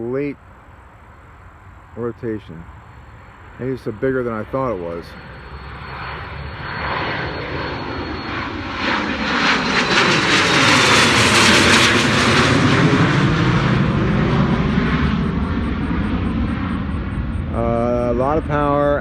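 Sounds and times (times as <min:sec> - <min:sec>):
jet climbing after takeoff: 0:00.2 - 0:19.0.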